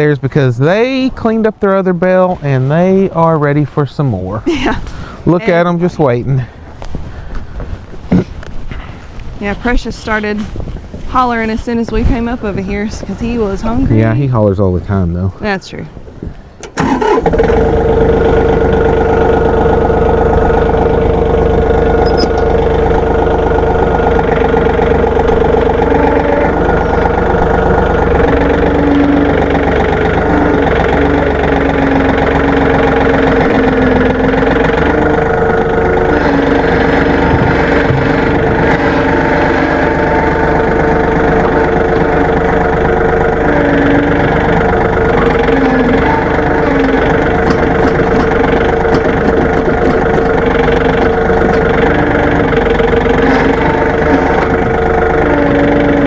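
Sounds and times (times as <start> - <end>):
low engine tone: 0.0 - 56.0
tractor engine running: 0.0 - 56.0.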